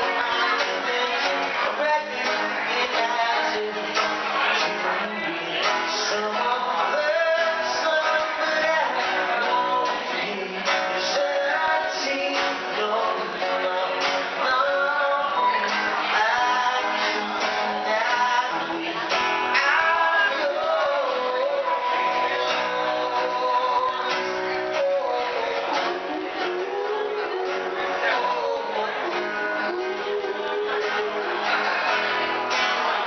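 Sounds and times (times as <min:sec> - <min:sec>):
man singing: 0:00.0 - 0:33.0
strummed acoustic guitar: 0:00.0 - 0:33.0.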